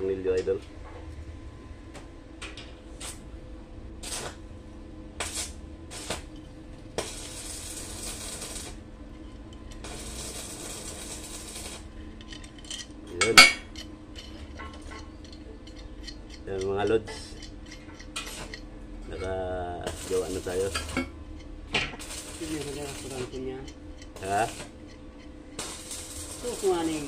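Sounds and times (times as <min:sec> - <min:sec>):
metal scraping: 0:05.2 - 0:27.0.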